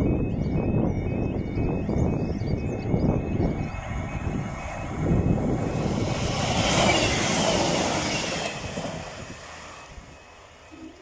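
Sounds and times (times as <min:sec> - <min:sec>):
train passing at speed: 0:00.0 - 0:11.0
wind buffeting microphone: 0:00.0 - 0:11.0.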